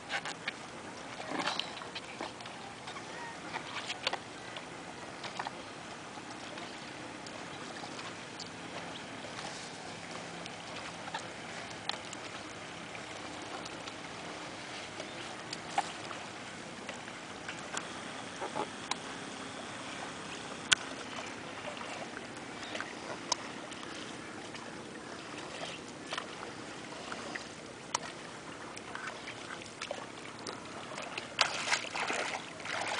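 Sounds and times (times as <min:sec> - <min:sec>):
moving water wash: 0:00.0 - 0:32.9
paddle splashes and drips: 0:00.0 - 0:32.9.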